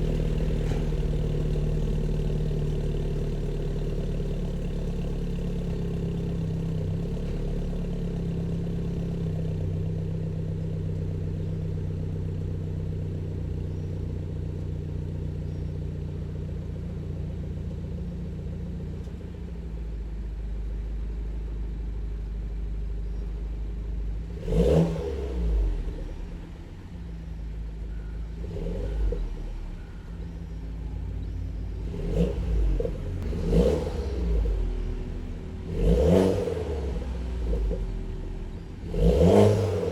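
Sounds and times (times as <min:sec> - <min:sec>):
car exhaust idling and revving: 0:00.0 - 0:39.9.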